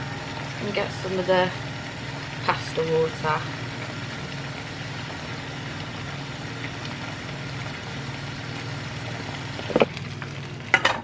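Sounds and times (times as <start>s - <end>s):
gas hob hum and hiss: 0.0s - 11.0s.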